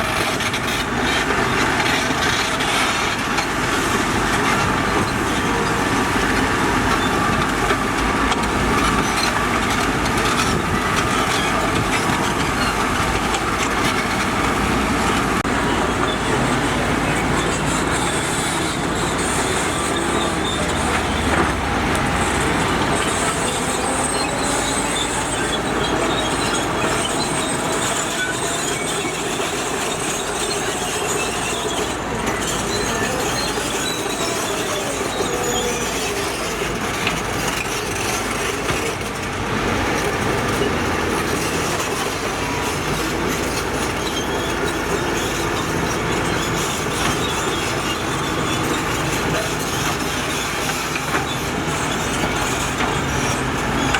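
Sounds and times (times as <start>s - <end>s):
heavy machinery running: 0.0s - 53.9s
metallic squeals and clatter: 0.0s - 53.9s.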